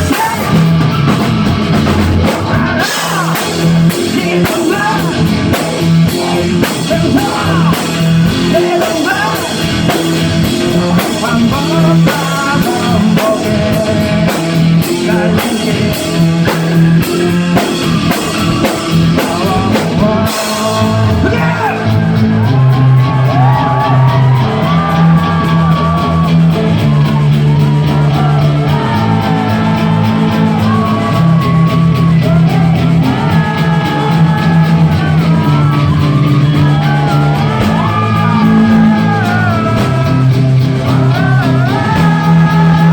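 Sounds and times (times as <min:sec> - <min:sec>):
man singing: 0:00.0 - 0:01.2, 0:02.2 - 0:26.4, 0:27.8 - 0:42.9
cymbal-heavy drumming: 0:00.0 - 0:42.9
live rock band: 0:00.0 - 0:42.9.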